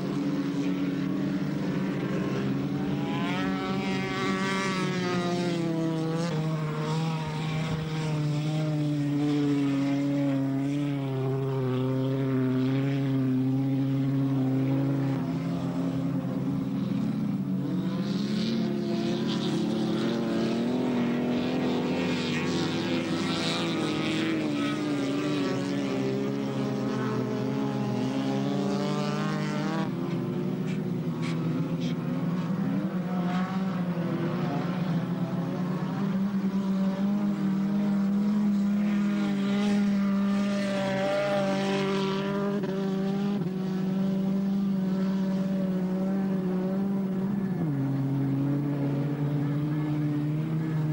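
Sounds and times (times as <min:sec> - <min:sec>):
racing car engines: 0:00.0 - 0:50.9.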